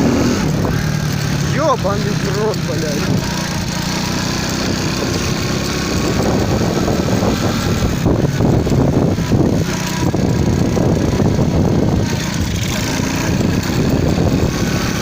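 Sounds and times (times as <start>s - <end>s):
wind buffeting microphone: 0.0s - 1.5s, 4.4s - 15.0s
motorcycle engine drone: 0.0s - 15.0s.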